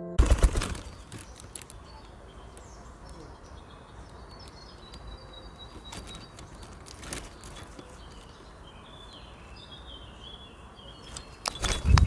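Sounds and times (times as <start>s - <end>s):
small birds chirping: 0.7s - 12.0s.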